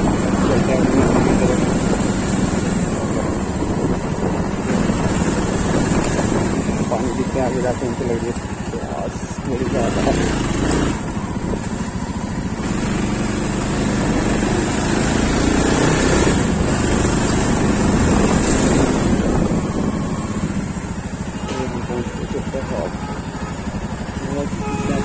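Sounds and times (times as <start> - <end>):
wind buffeting microphone: 0.0 - 22.2
motorcycle engine running: 0.0 - 25.0.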